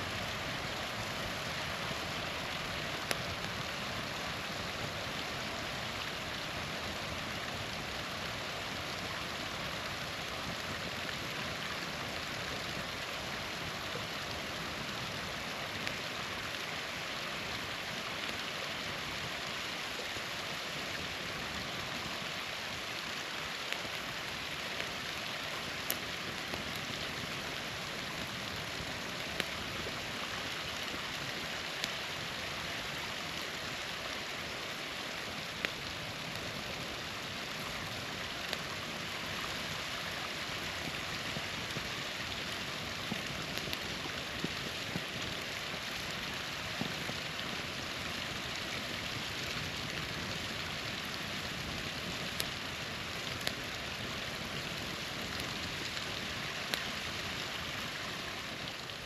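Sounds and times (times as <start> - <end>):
campfire crackling and popping: 0.0 - 59.0
small waterfall rushing: 0.0 - 59.0.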